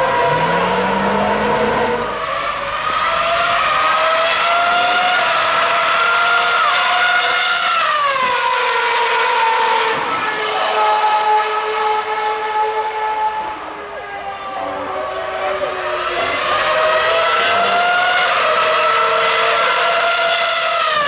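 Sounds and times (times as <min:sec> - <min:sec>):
racing car engines at high revs: 0:00.0 - 0:21.0
racing car passing by: 0:00.0 - 0:21.0.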